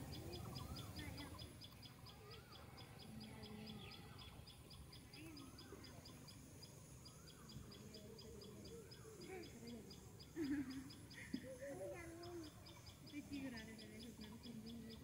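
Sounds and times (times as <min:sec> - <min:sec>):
faint wavering calls: 0:00.0 - 0:15.0.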